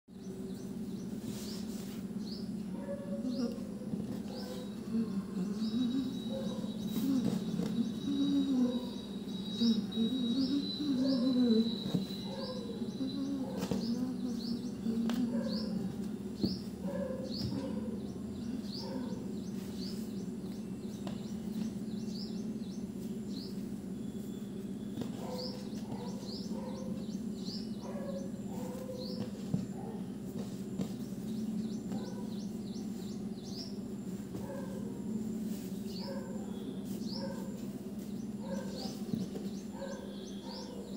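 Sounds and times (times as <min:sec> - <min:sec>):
small bird chirping: 0:00.1 - 0:40.9
steady low hum: 0:00.1 - 0:40.9.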